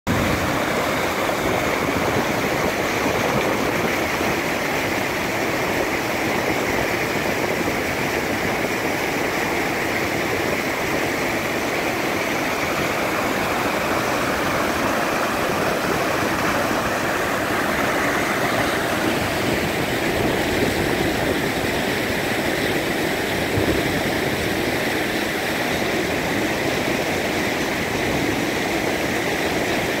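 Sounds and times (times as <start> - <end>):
waterfall rushing over rocks: 0.1 - 30.0.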